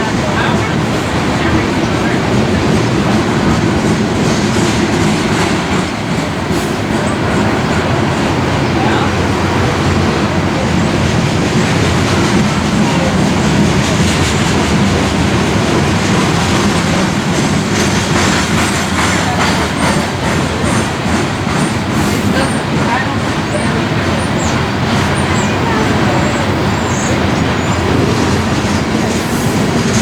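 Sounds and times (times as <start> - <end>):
train wheels rumbling on rail: 0.0 - 30.0
wheels clicking over rail joints: 0.0 - 30.0.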